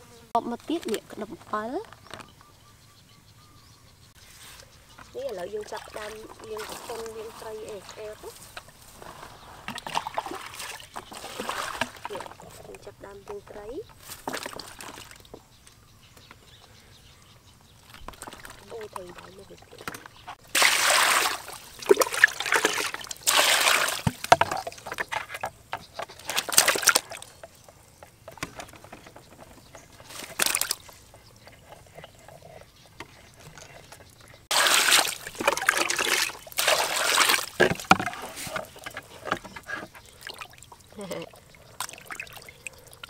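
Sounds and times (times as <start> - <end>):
water sloshing in basin: 5.1 - 15.4, 17.8 - 43.0.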